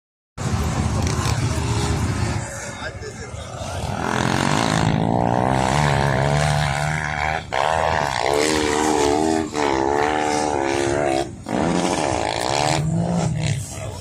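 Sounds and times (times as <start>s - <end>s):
engines revving hard: 0.4s - 14.0s.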